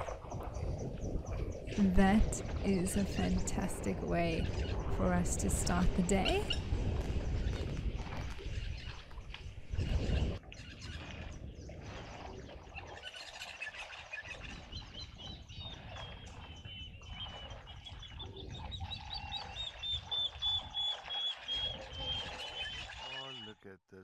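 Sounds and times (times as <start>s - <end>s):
birds chirping: 0.0s - 9.2s, 13.0s - 23.7s.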